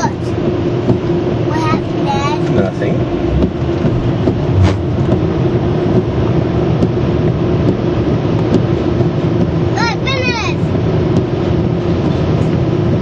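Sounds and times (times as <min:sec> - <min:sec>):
car wash rushing noise: 0:00.0 - 0:13.0
constant machine hum: 0:00.0 - 0:13.0.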